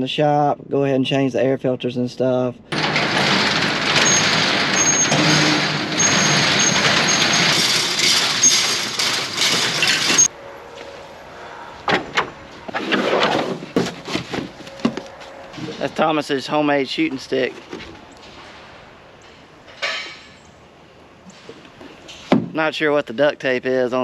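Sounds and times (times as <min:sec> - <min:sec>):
vehicle engine and road noise: 0:02.7 - 0:22.4.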